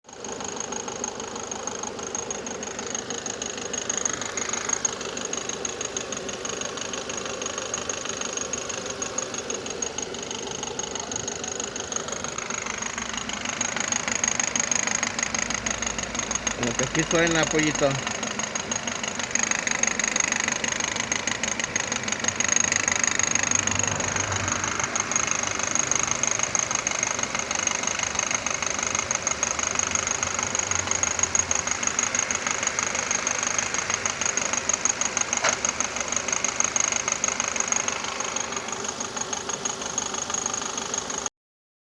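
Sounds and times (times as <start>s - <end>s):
car engine idling: 0.0s - 41.3s
rapid ticking knock from engine: 0.1s - 41.3s.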